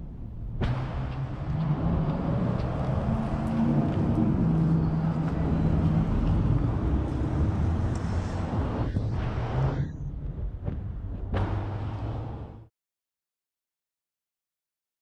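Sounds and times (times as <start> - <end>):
traffic noise: 0.0 - 12.7
vehicle engine hum: 0.0 - 12.7.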